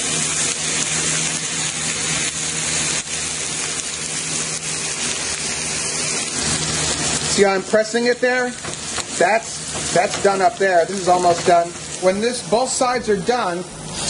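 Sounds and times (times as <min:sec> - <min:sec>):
box fan humming: 0:00.0 - 0:14.0
steak sizzling in a hot pan: 0:00.0 - 0:14.0.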